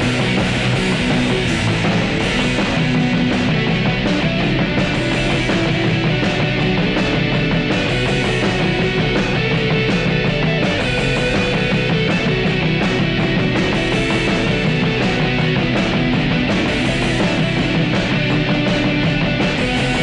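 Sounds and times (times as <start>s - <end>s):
electric guitars: 0.0s - 20.0s
steady drum beat: 0.0s - 20.0s.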